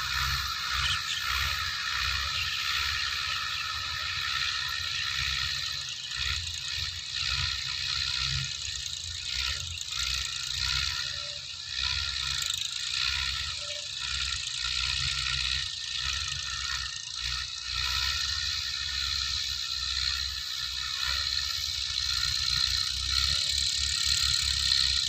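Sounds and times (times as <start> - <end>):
rotary tiller mechanical clatter: 0.0 - 25.0.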